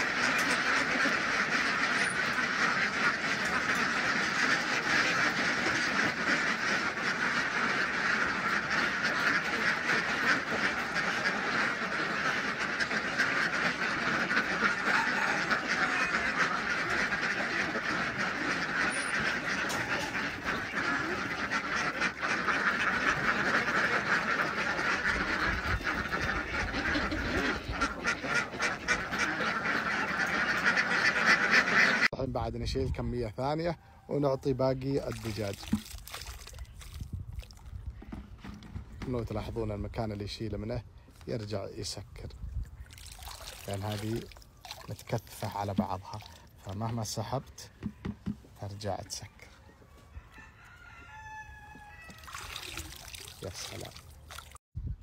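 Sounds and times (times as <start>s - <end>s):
ducks quacking: 0.0s - 32.3s, 33.0s - 54.0s.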